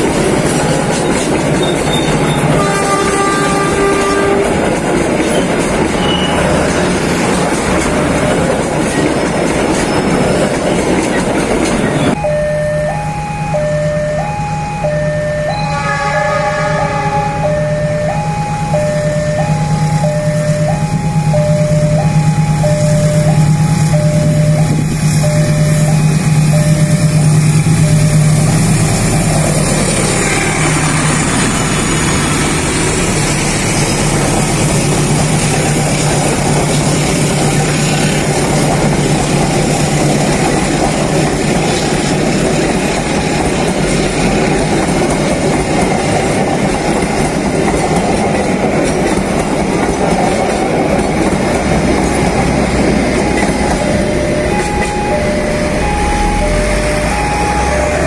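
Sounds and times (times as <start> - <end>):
carriages rumbling on rails: 0.0 - 58.0
diesel locomotive humming: 0.0 - 58.0
two-tone crossing warning signal: 0.8 - 43.6, 50.4 - 58.0.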